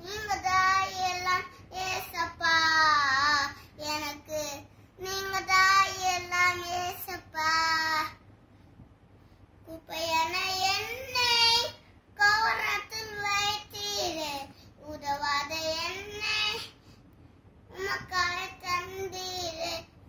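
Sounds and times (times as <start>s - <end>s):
boy singing unaccompanied: 0.0s - 8.2s, 9.7s - 16.8s, 17.7s - 19.9s.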